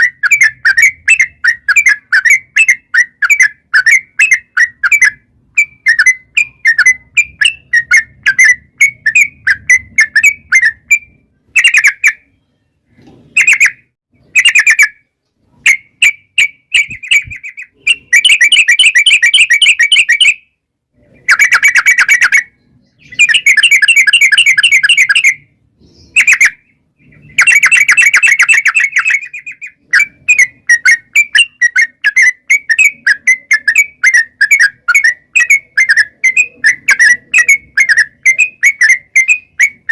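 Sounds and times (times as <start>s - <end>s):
bird chattering notes: 0.0s - 12.4s, 13.3s - 15.0s, 15.6s - 20.4s, 21.0s - 39.9s.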